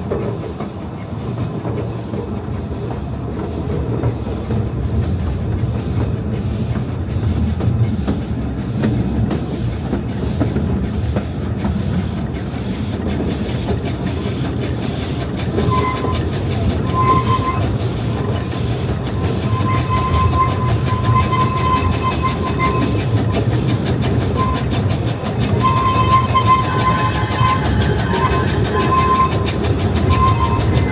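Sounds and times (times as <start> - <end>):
train running: 0.0 - 30.9.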